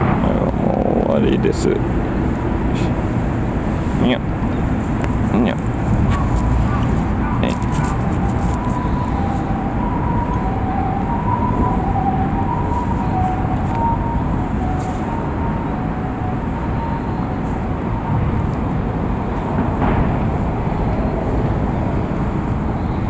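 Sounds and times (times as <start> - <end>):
distant hi-lo ambulance siren: 0.0 - 23.0
steady low rumble: 0.0 - 23.0.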